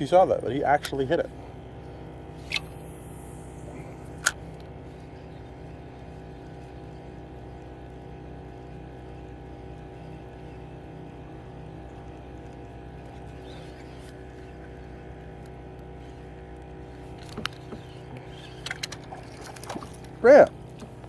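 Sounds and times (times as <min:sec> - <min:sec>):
boat motor droning: 0:00.0 - 0:21.0.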